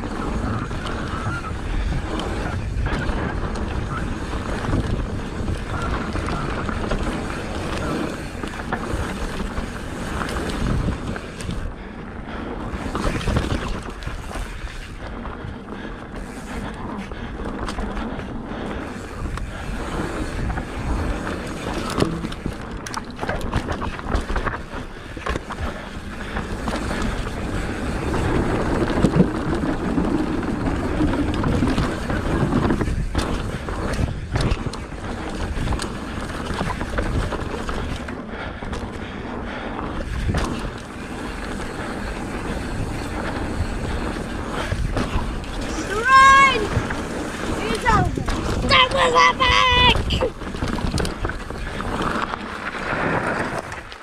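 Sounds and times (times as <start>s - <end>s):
bike rattling over bumps: 0.0s - 54.0s
bike tyres rolling on dirt: 0.0s - 54.0s
wind on microphone: 0.0s - 54.0s.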